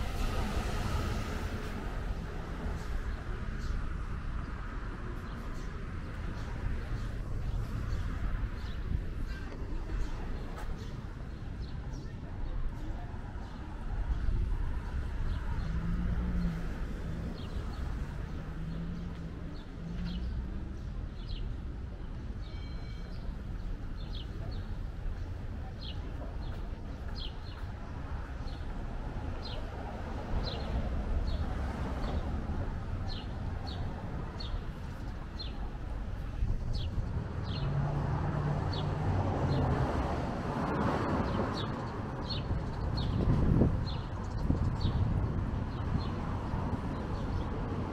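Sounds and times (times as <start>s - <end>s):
low traffic rumble: 0.0s - 47.9s.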